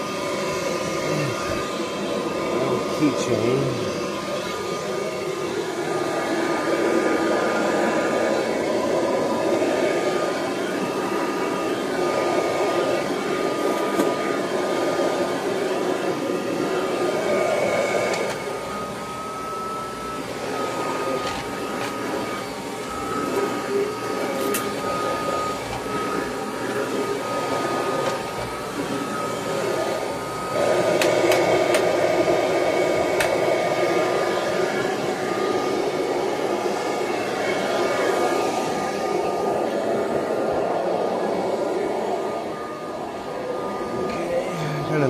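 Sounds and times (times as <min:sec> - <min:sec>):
vacuum cleaner whining: 0:00.0 - 0:45.0.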